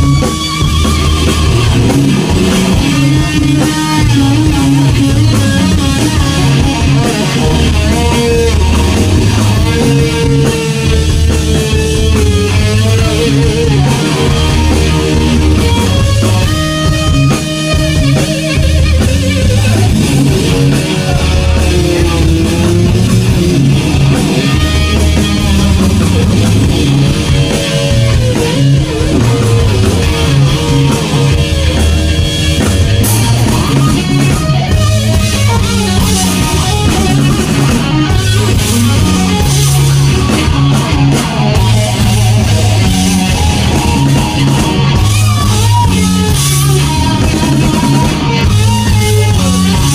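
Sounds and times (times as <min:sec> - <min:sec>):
bass guitar: 0:00.0 - 0:49.9
drum kit: 0:00.0 - 0:49.9
electric guitar lead bending notes: 0:00.0 - 0:49.9.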